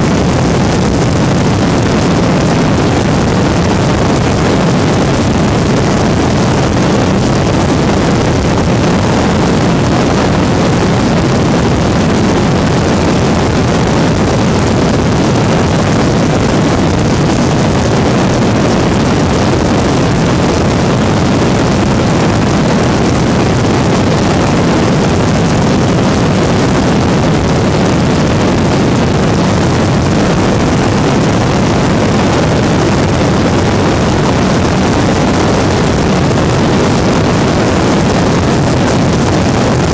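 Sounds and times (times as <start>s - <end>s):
two-stroke aircraft engine: 0.0s - 39.9s
wind rush on microphone: 0.0s - 39.9s.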